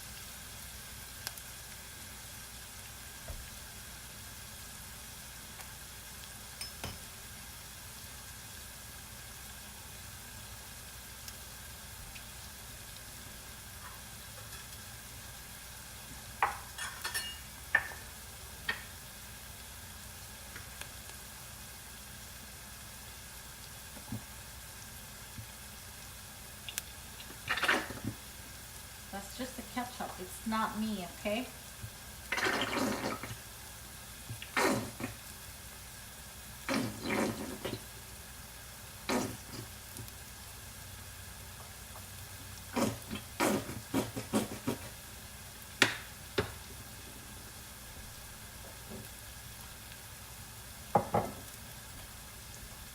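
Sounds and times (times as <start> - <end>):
onion and garlic sizzling in oil: 0.0 - 52.9.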